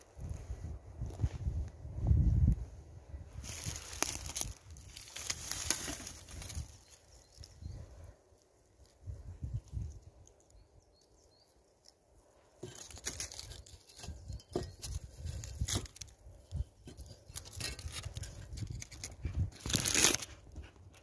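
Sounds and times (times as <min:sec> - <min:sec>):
dry leaves and twigs rustling: 0:00.0 - 0:21.0.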